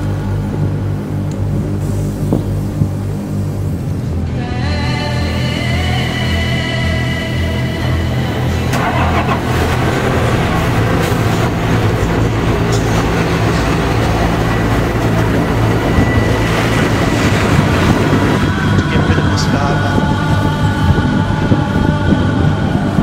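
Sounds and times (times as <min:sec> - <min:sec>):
train rumbling on elevated tracks: 0:00.0 - 0:23.0.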